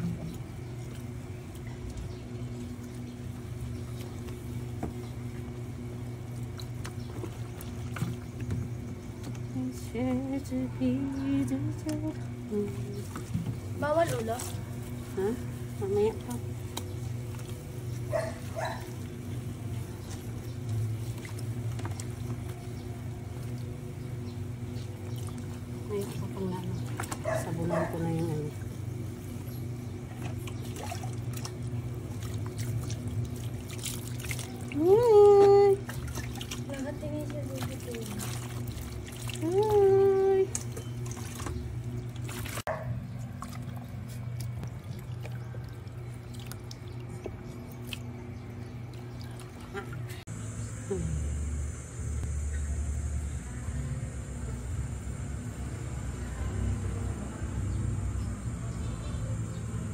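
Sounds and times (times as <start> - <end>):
water trickling into plastic tub: 0.0 - 10.7, 11.4 - 50.2
hand rubbing wet fur: 0.0 - 50.3
low motor hum: 0.0 - 59.9.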